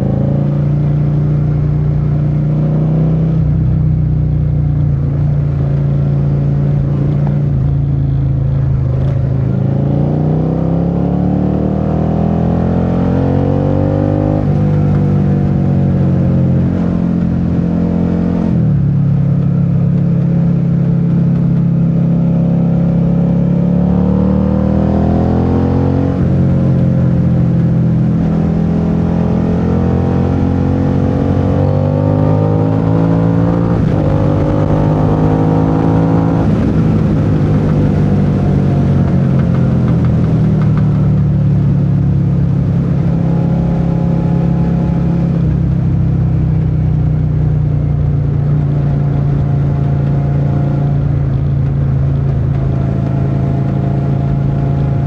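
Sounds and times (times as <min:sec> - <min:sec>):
motorcycle engine revving through gears: 0:00.0 - 0:55.0.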